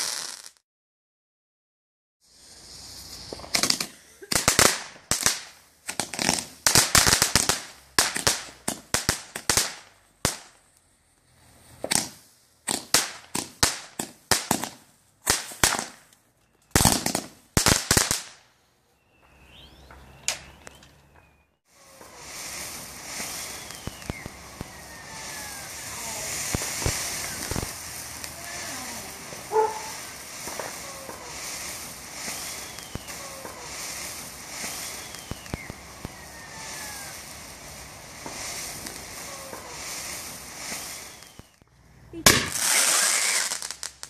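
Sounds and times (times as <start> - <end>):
firework bangs and crackling: 0.0 - 0.6, 2.2 - 18.4, 19.2 - 44.0
firework fountain hissing: 0.0 - 0.6, 2.2 - 10.5, 11.1 - 16.0, 21.7 - 44.0.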